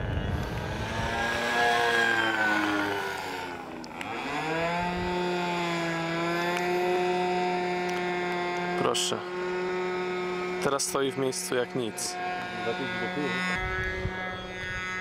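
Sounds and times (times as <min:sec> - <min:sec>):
model plane engine running: 0:00.0 - 0:15.0.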